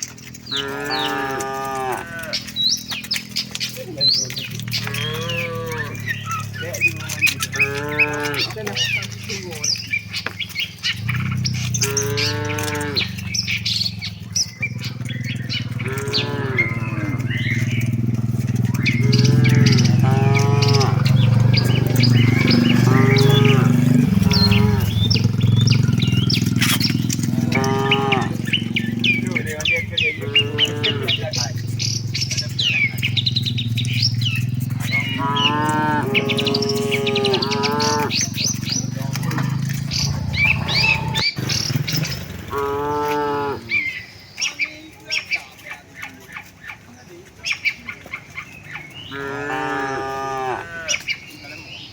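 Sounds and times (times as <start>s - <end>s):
cattle mooing: 0.0s - 41.4s, 42.3s - 44.0s, 49.0s - 51.1s
birds chirping: 0.0s - 51.9s.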